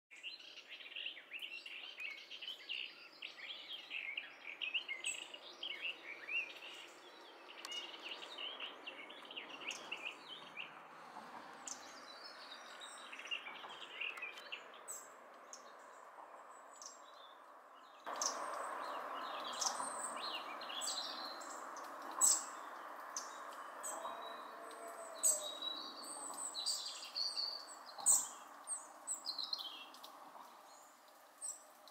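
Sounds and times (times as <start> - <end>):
small birds twittering: 0.1 - 31.9.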